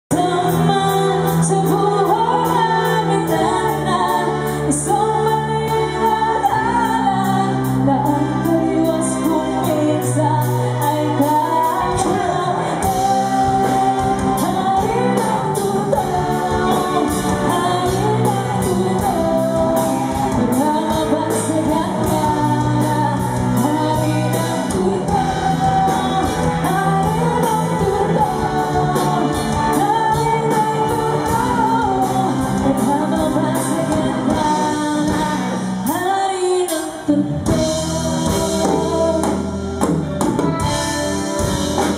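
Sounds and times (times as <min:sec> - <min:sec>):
bass line: 0:00.0 - 0:36.3, 0:37.1 - 0:41.9
song with singing over beat: 0:00.1 - 0:41.9.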